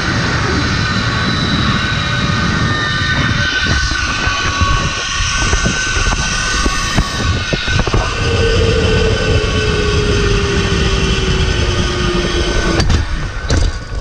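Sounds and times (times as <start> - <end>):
wind rush on microphone: 0.0 - 14.0
zip line pulleys whining on cable: 0.0 - 14.0.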